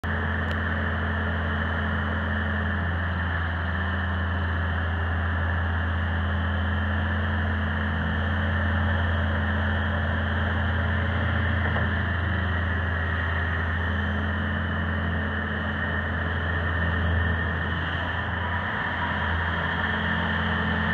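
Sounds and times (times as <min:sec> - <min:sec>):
diesel engine humming: 0:00.0 - 0:20.9.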